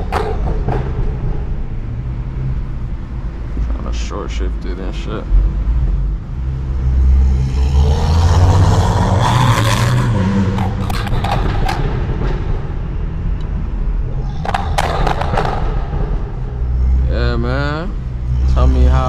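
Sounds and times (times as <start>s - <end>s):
car engine accelerating: 0.0s - 19.0s
exhaust crackles: 0.0s - 19.0s.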